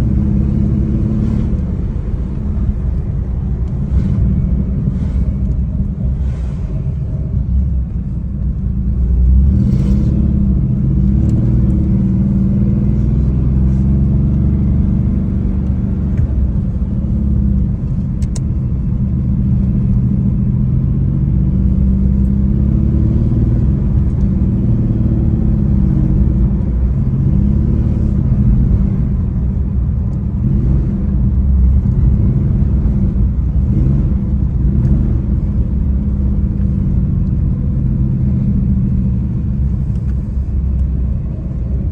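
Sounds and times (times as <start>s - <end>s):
car engine accelerating through gears: 0.0s - 41.9s.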